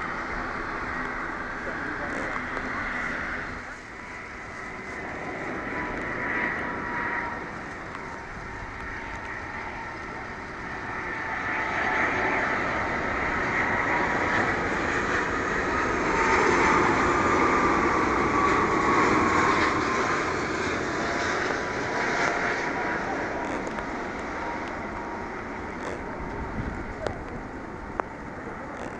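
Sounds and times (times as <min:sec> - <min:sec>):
jet plane passing low overhead: 0:00.0 - 0:28.9.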